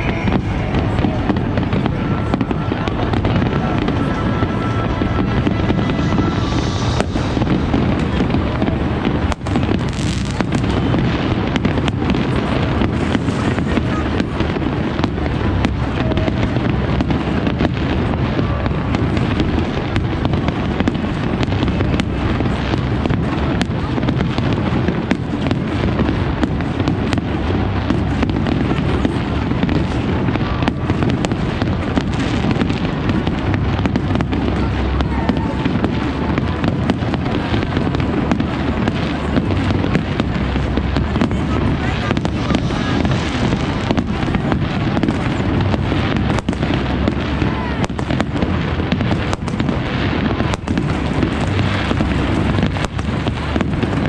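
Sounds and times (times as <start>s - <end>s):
fireworks bursting and crackling: 0.0s - 54.0s
low rumble: 0.0s - 54.0s
sharp fireworks bangs: 0.0s - 54.0s.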